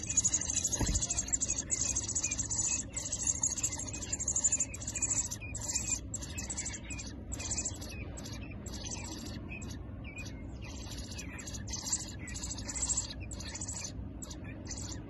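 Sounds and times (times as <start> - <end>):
low steady hum: 0.0 - 15.0
nestling birds begging calls: 0.0 - 15.0.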